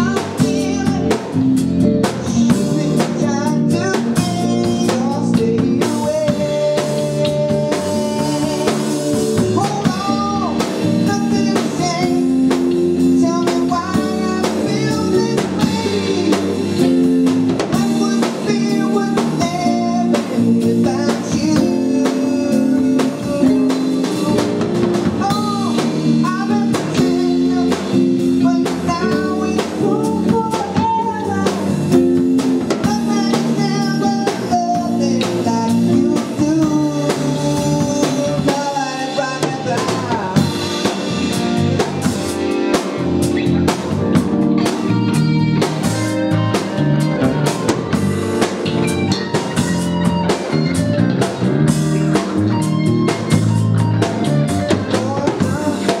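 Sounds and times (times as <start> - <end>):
man singing: 0.0 - 45.2, 52.1 - 56.0
live band playing: 0.0 - 56.0.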